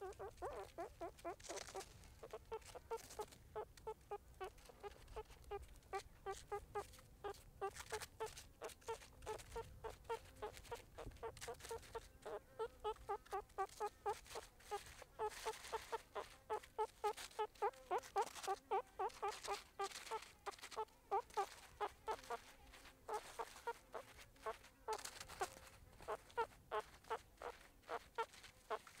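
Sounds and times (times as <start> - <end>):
meerkats calling: 0.0 - 29.0.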